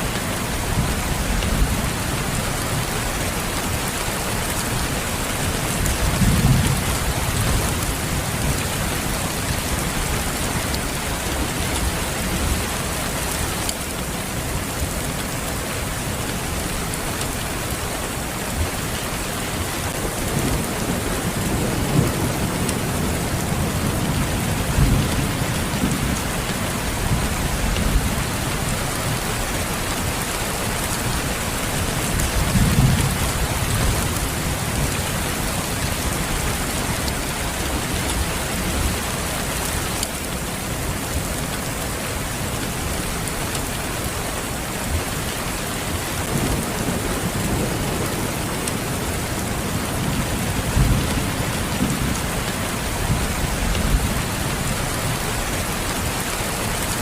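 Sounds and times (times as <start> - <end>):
rain hissing and pattering: 0.0 - 57.0.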